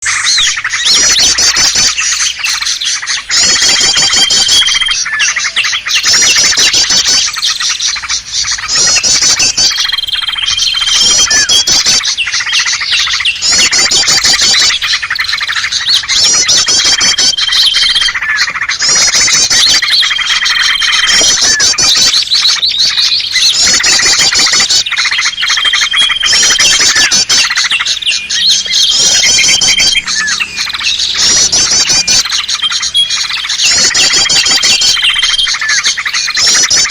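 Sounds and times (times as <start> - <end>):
bird whistle: 0.0 - 36.9
songbirds chattering: 0.0 - 36.9.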